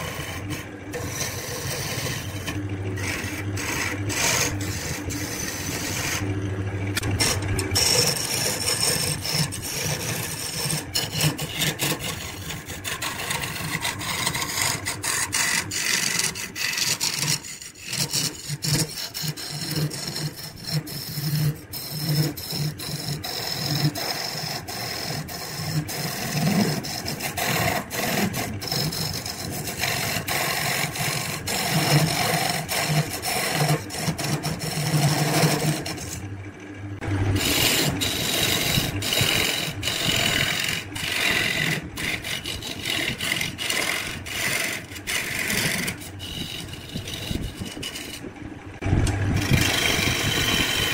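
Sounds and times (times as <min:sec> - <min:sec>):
lathe motor hum: 0:00.0 - 0:50.9
tool scraping spinning wood: 0:00.0 - 0:50.9.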